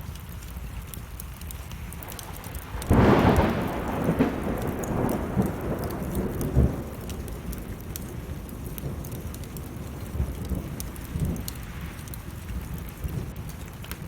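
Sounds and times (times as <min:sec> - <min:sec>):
steady rain: 0:00.0 - 0:14.0
wood fire crackling: 0:00.0 - 0:14.0
thunder rumble: 0:02.0 - 0:14.0.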